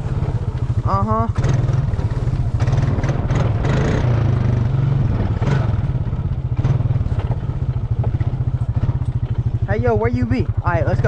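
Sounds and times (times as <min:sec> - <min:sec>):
clattering over rough ground: 0:00.0 - 0:11.0
motorbike engine running: 0:00.0 - 0:11.0.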